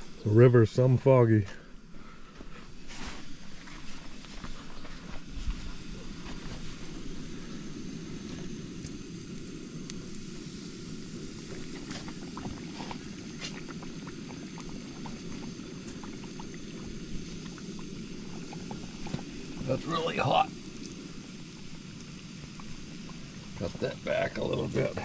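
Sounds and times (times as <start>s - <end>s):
gas burner rush: 0.0s - 25.0s
oil crackling and popping: 3.1s - 25.0s.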